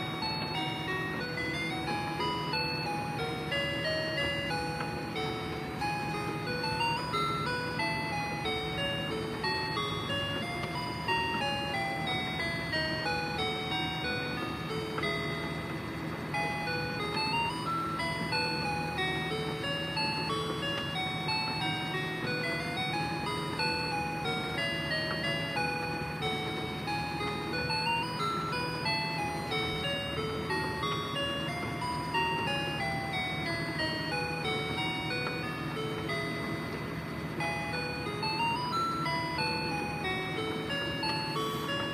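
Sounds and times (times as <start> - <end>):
steady low hum: 0.0 - 41.9
toy electronic beeping melody: 0.0 - 41.9.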